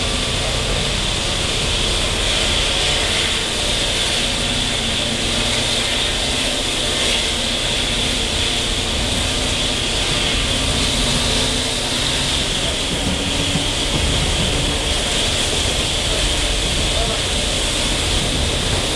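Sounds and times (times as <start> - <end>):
train wheels rumbling on rails: 0.0 - 18.9.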